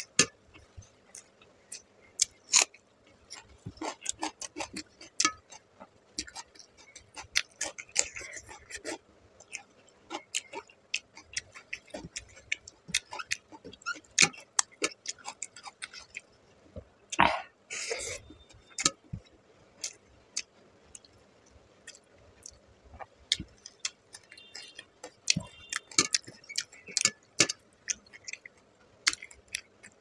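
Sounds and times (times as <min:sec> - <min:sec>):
mouth chewing food: 0:00.0 - 0:16.3, 0:21.8 - 0:30.0.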